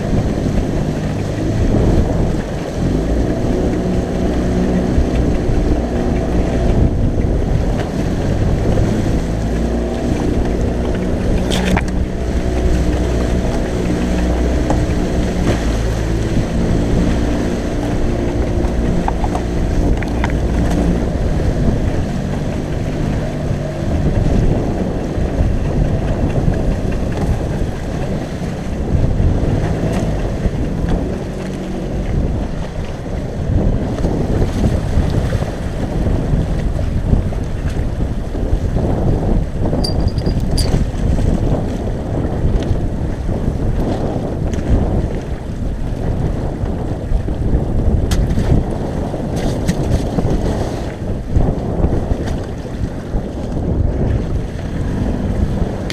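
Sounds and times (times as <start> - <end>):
outboard motor running: 0.0 - 55.9
waves splashing against hull: 0.0 - 55.9
wind buffeting microphone: 0.0 - 55.9.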